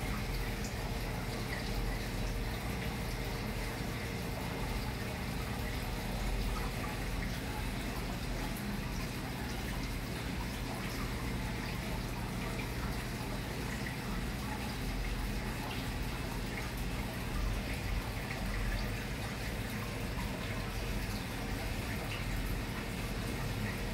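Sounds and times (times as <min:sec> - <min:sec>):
aquarium water bubbling: 0:00.0 - 0:23.9.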